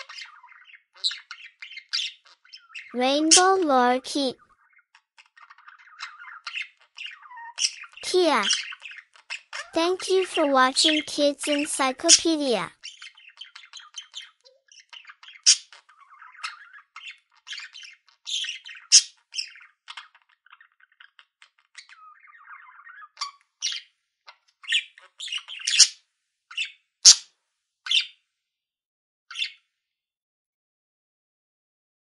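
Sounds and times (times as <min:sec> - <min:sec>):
parrot squawks and chirps: 0:00.0 - 0:28.2, 0:29.3 - 0:29.6.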